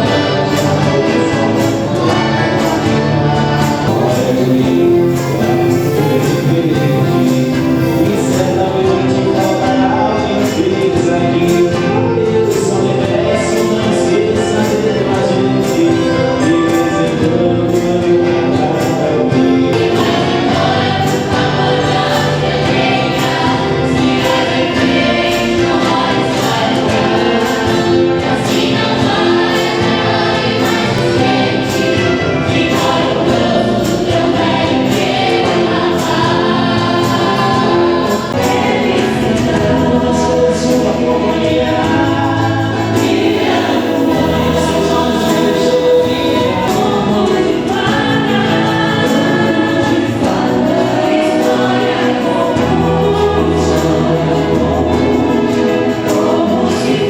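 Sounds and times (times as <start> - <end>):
choir singing: 0.0 - 57.0
instrumental accompaniment with beat: 0.0 - 57.0.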